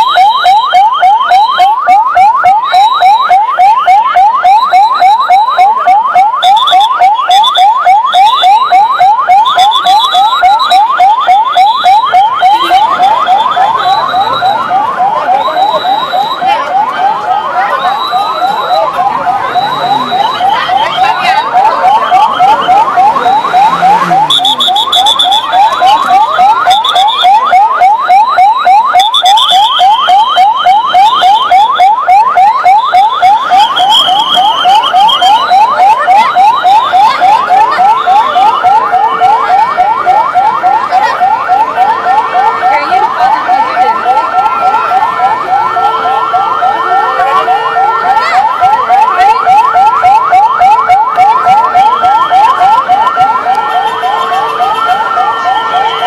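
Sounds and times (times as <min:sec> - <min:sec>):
fast yelping siren: 0:00.0 - 0:56.0
steady held siren tones: 0:00.0 - 0:56.0
wailing sirens: 0:00.0 - 0:56.0.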